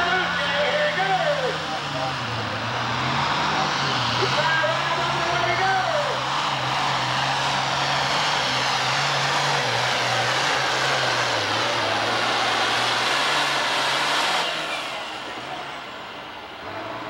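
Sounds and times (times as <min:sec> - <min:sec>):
high turbo whine: 0:00.0 - 0:17.0
tractor diesel engine at full power: 0:00.0 - 0:17.0.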